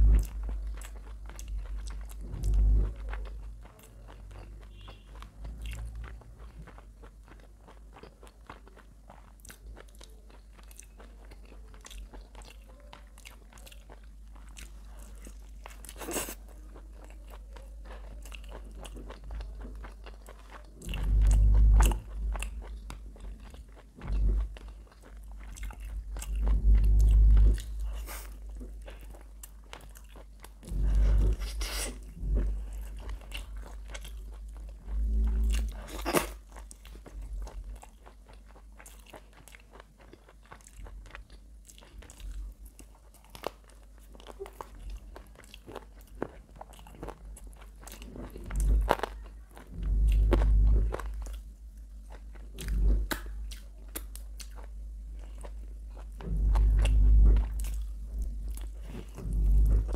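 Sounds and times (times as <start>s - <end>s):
crunchy chewing of fried chicken: 0.0s - 59.9s.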